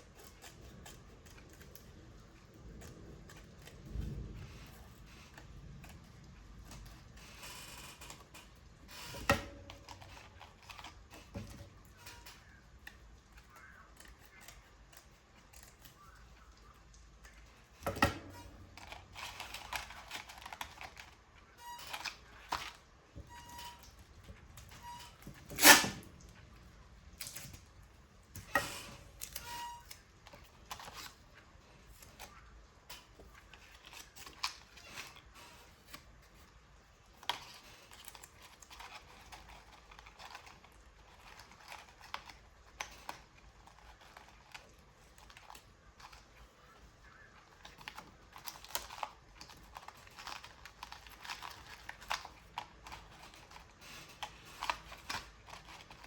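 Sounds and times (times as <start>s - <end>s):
paper rustling and tool clicks: 0.0s - 56.0s.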